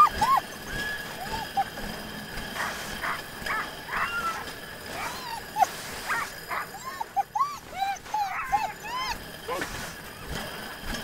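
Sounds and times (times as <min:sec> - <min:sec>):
sled dogs yipping and whining: 0:00.0 - 0:11.0.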